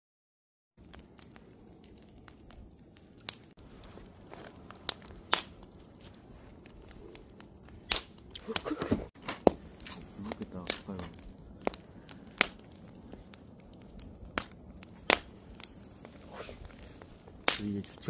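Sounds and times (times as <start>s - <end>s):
campfire crackling and popping: 0.8s - 18.0s.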